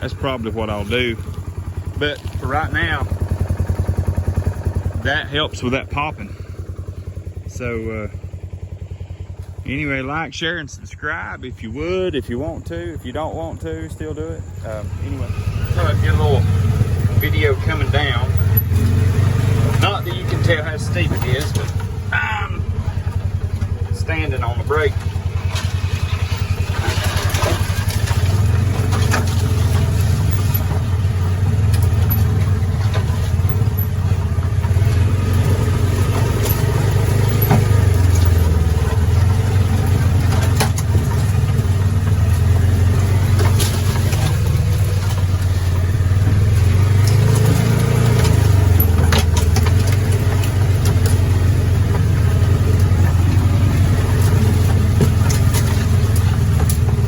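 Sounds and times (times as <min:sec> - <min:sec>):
engine running low and steady: 0:00.0 - 0:57.0.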